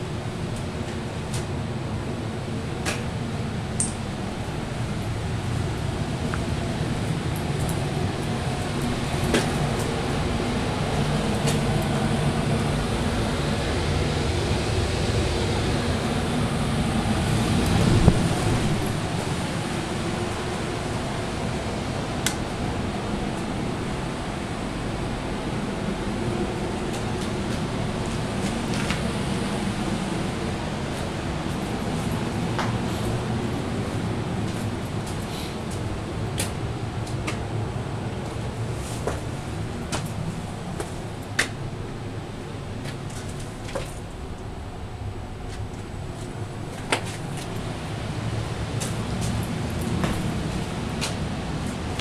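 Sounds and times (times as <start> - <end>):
mechanical blower humming: 0.0 - 52.0.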